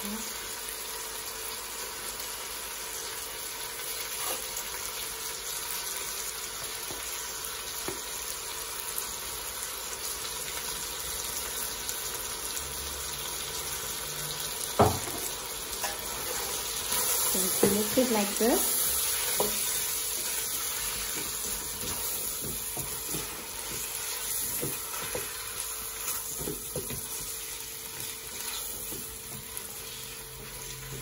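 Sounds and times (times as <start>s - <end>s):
meat frying in oil: 0.0s - 31.0s.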